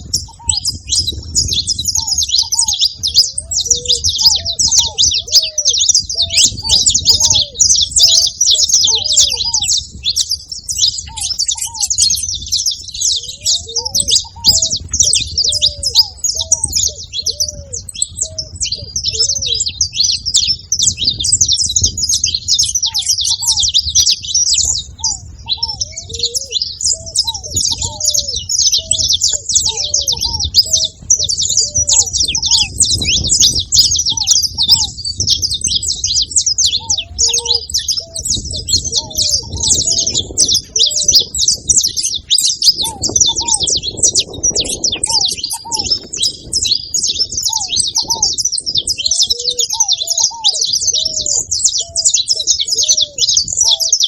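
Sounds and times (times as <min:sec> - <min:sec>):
finches chirping and singing: 0:00.0 - 0:54.0.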